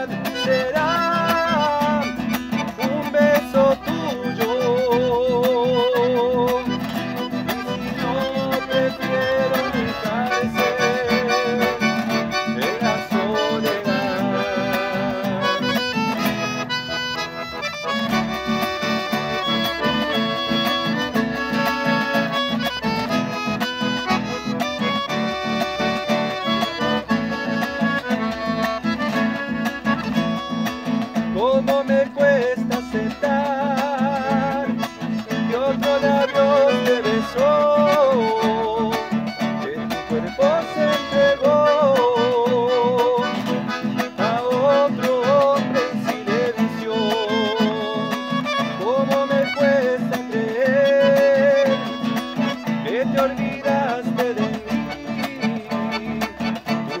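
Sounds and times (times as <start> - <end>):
accordion playing: 0.0 - 57.0
classical guitar strumming: 0.0 - 57.0
man singing: 0.0 - 57.0.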